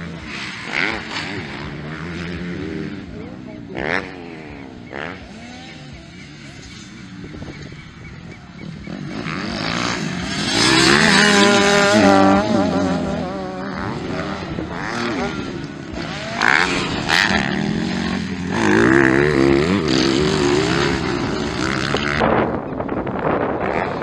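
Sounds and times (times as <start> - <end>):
motocross engines revving: 0.0 - 24.0.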